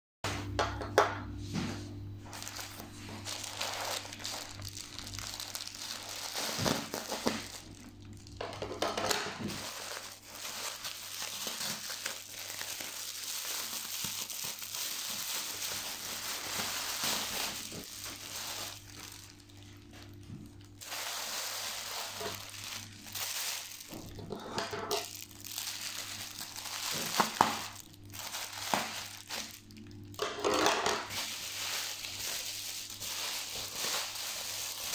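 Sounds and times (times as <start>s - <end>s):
plastic packaging crinkling: 2.2s - 34.9s.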